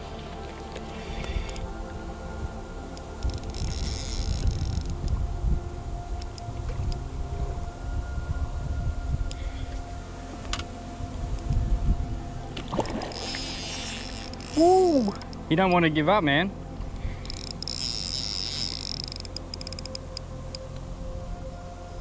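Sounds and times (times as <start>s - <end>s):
low rumbling on microphone: 0.0s - 17.7s
background music tones: 0.0s - 22.0s.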